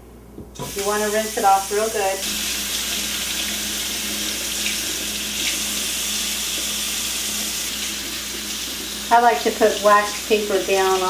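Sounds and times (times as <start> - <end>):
faucet running into sink: 0.6 - 11.0
fish rinsed under water stream: 0.6 - 11.0.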